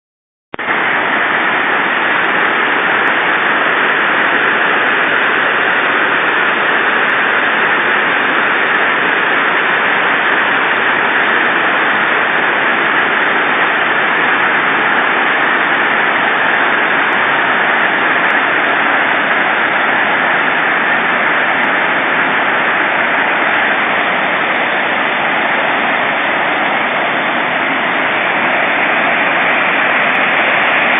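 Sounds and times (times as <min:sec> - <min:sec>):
waterfall rushing: 0:00.6 - 0:30.9.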